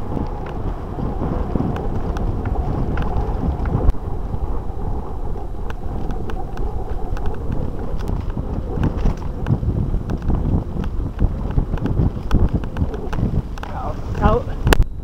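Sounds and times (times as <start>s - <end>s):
bike tyres rumbling on dirt: 0.0s - 14.7s
wind buffeting microphone: 0.0s - 15.0s.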